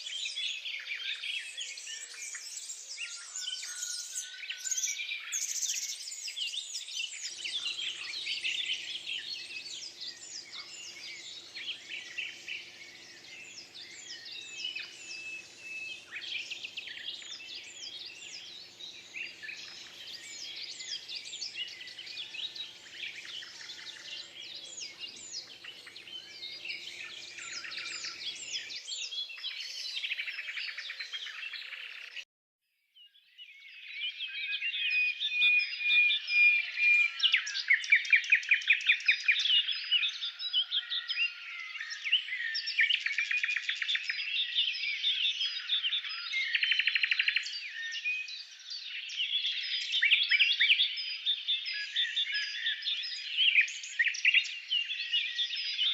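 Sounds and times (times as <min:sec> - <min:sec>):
small birds chirping: 0:00.0 - 0:32.2, 0:33.0 - 0:55.9.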